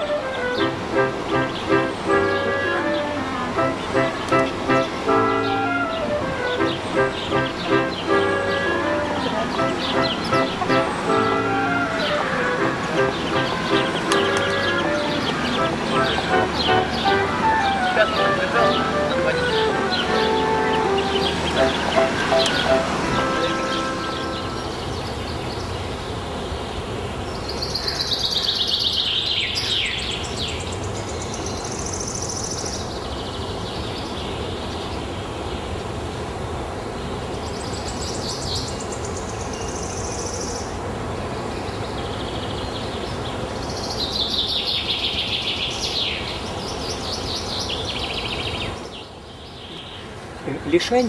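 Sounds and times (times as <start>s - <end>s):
songbird singing: 0.0s - 51.0s
steady background noise: 0.0s - 51.0s.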